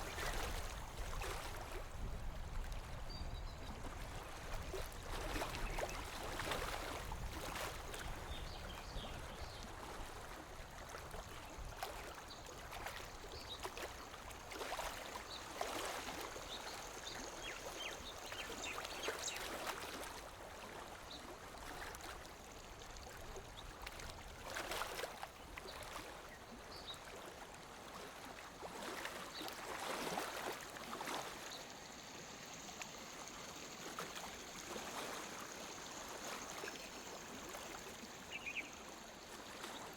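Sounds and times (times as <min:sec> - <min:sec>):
lake water lapping against shore: 0:00.0 - 0:39.9.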